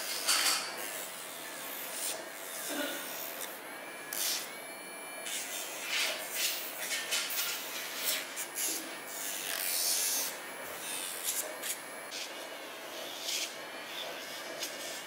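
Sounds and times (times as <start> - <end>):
electric nail grinder grinding: 0.0 - 15.0.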